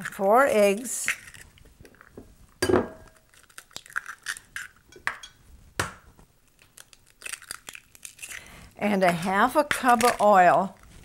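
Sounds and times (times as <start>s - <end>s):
eggshell crackling: 0.0s - 11.0s
eggs cracking on glass bowl: 0.9s - 11.0s.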